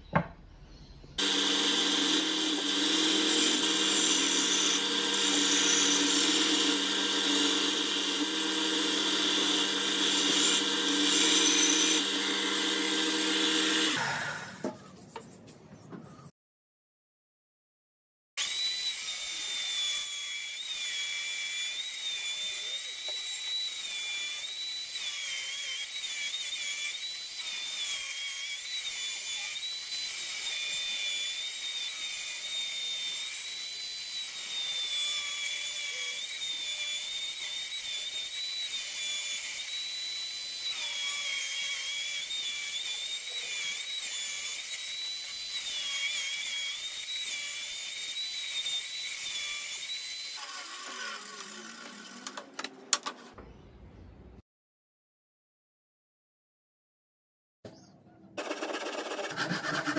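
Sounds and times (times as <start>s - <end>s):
table saw cutting wood: 1.2s - 14.9s, 18.4s - 53.3s, 58.4s - 59.9s.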